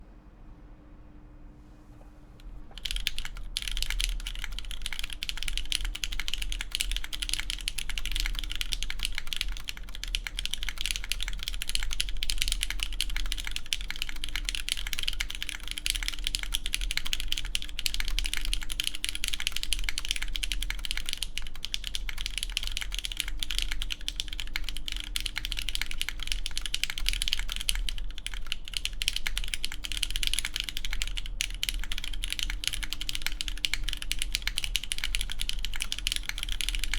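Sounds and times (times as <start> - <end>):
fast typing on mechanical keyboard: 2.7 - 36.9.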